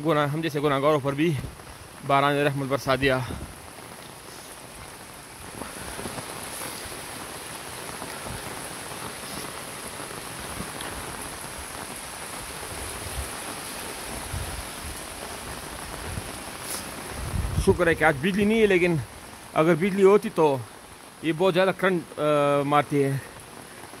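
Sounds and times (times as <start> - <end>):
rain on concrete: 0.0 - 24.0.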